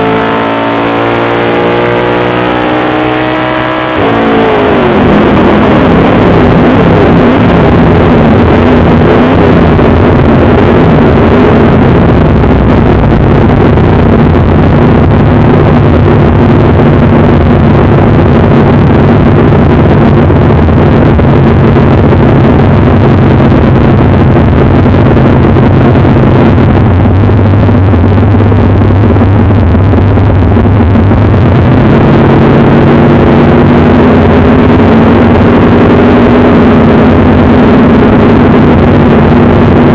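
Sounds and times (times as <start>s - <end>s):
race car engine running loud: 0.0s - 39.9s.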